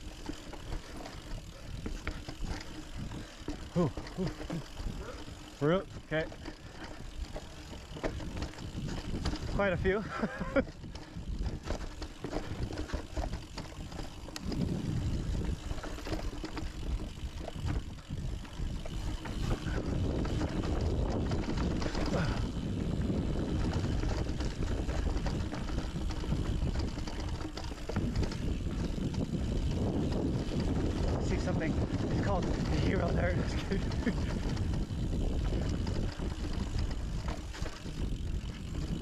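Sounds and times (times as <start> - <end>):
bike rattling over rocks: 0.0 - 39.0
wind rushing over microphone: 4.8 - 39.0.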